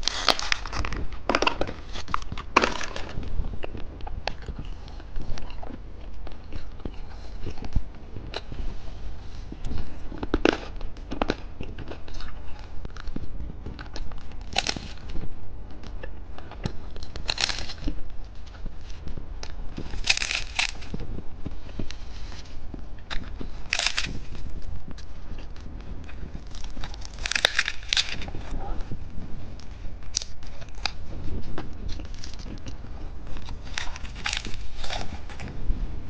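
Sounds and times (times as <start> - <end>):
plastic wrappers crinkling: 0.0 - 15.3, 16.5 - 35.7.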